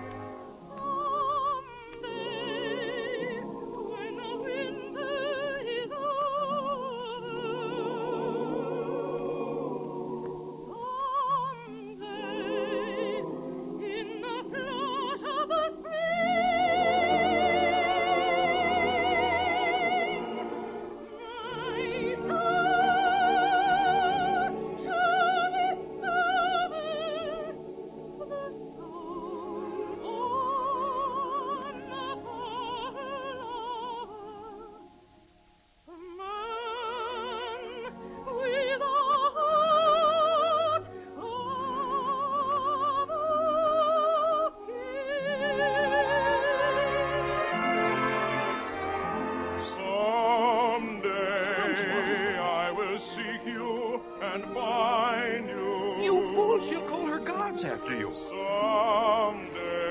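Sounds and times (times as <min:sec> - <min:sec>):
orchestral accompaniment: 0:00.0 - 0:34.9, 0:44.6 - 0:59.9
operatic soprano singing: 0:00.0 - 0:59.9.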